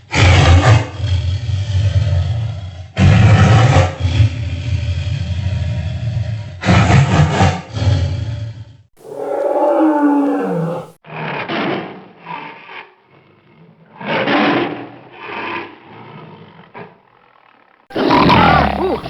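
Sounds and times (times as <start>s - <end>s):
tiger roaring: 0.0s - 17.0s, 17.9s - 19.0s.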